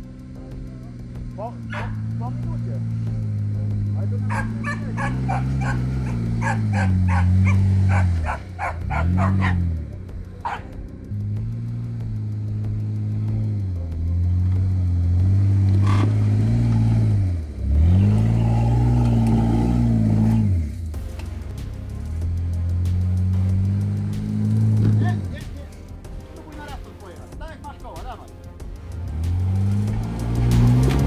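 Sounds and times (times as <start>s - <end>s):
hip-hop music with sliding bass: 0.0s - 31.0s.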